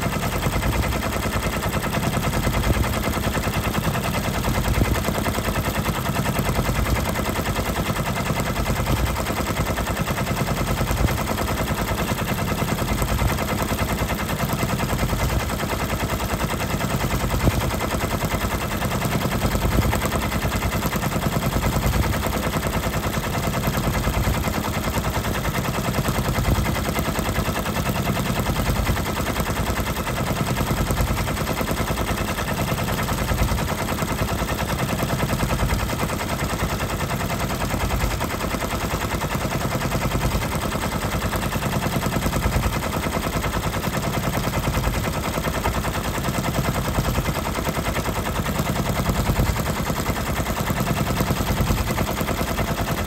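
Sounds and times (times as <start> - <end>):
embroidery machine stitching: 0.0 - 53.0.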